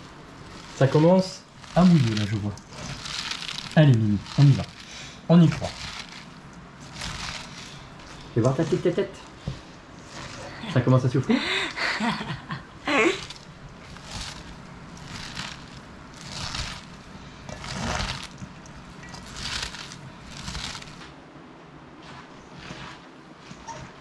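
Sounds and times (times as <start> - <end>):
hands squelching wet cabbage: 0.0 - 12.2, 13.0 - 21.2, 22.0 - 24.0.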